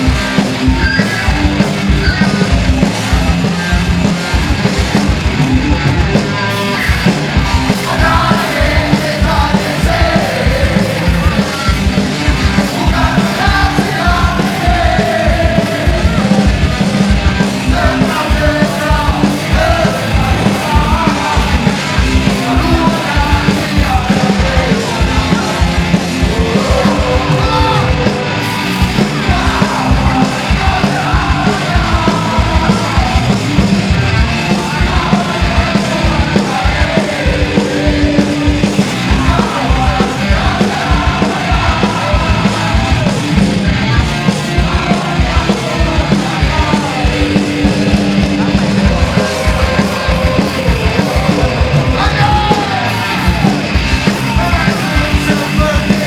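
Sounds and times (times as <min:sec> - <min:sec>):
punk rock band playing live: 0:00.0 - 0:56.0
shouted vocals: 0:06.3 - 0:56.0.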